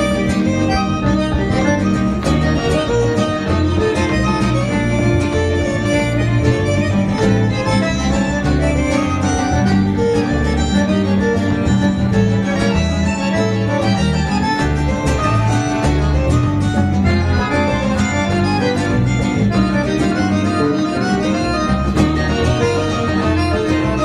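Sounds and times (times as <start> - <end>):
electric bass playing low notes: 0.0 - 24.0
live instrumental band: 0.0 - 24.0.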